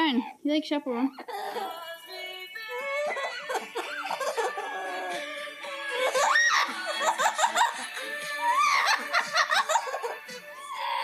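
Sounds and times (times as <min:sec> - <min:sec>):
pop song playing: 0:01.3 - 0:11.0.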